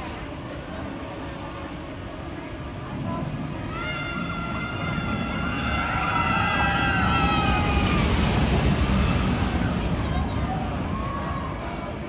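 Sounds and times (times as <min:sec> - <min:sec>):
roller coaster rolling on track: 0:00.0 - 0:12.0.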